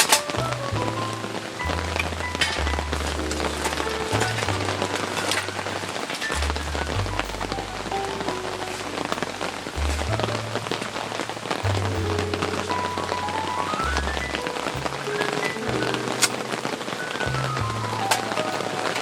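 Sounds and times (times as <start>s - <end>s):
background music with bass line: 0.0s - 19.0s
steady rain falling: 0.0s - 19.0s.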